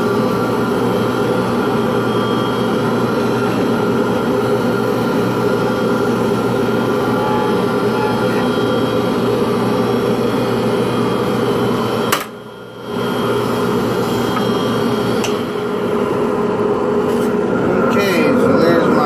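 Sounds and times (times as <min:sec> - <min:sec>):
power tool motor running: 0:00.0 - 0:17.5.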